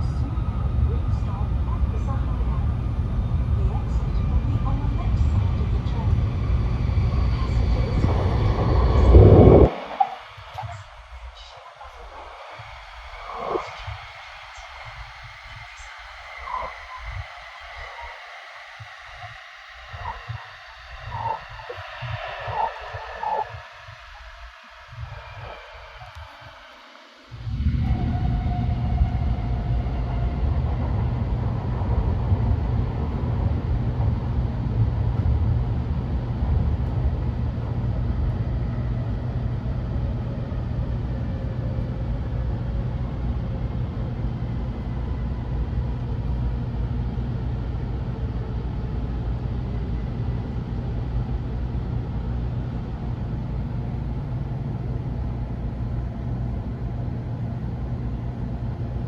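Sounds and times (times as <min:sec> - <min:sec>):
faint whine falling in pitch: 0:00.0 - 0:59.0
train low rumble: 0:00.0 - 0:59.0.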